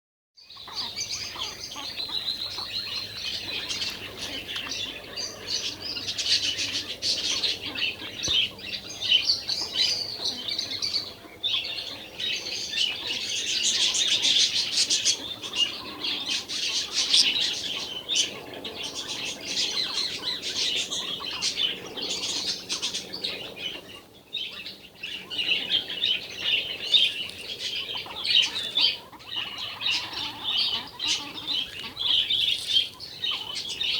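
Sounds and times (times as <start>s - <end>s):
birds chirping and squawking: 0.4s - 33.9s.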